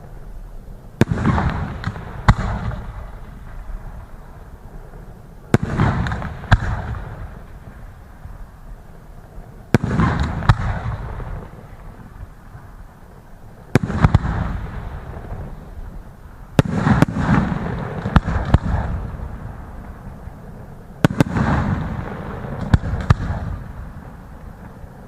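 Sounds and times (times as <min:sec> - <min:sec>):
rumbling echo with crackle: 0:00.0 - 0:25.0.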